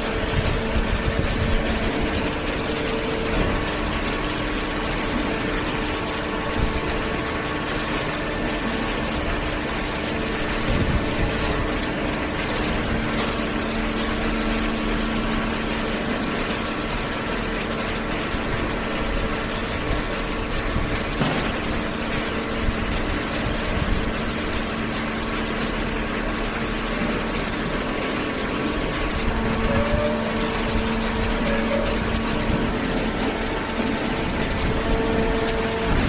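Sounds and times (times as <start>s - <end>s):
baler motor and pump hum: 0.0s - 36.0s.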